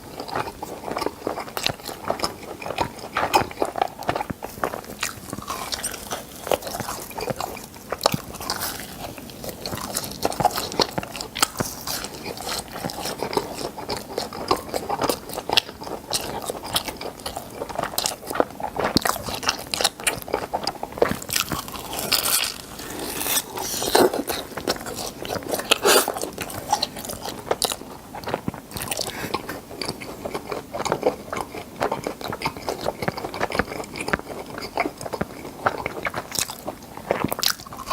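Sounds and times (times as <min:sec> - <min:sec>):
chewing crunchy food: 0:00.0 - 0:37.9.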